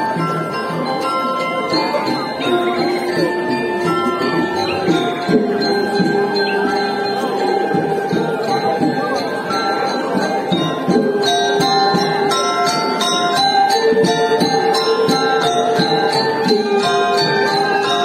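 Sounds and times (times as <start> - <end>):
gamelan playing: 0.0 - 18.0.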